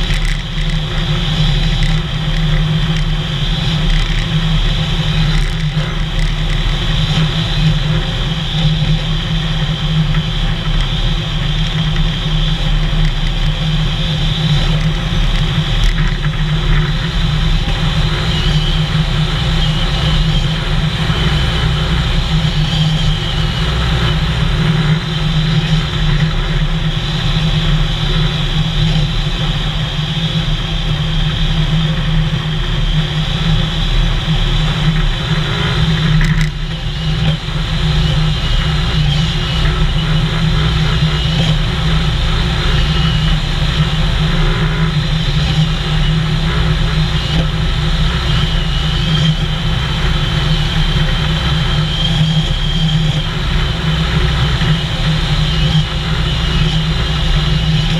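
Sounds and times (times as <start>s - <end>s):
road and wind noise: 0.0s - 57.9s
vehicle engine running: 0.0s - 57.9s.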